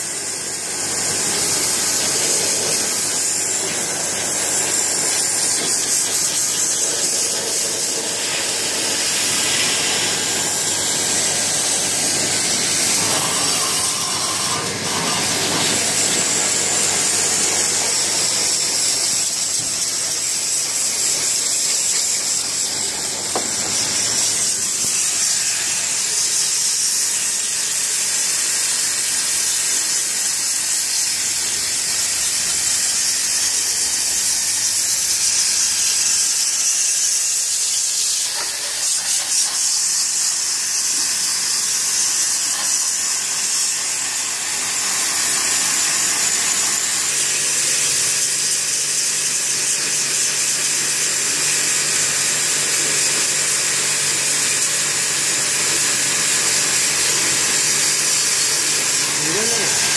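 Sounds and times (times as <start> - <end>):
pressure washer spraying water: 0.0 - 59.9.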